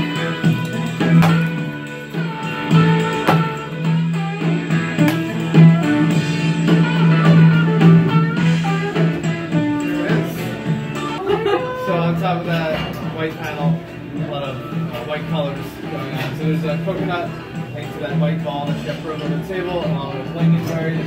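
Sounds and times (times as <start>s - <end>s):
guitar background music: 0.0s - 21.0s.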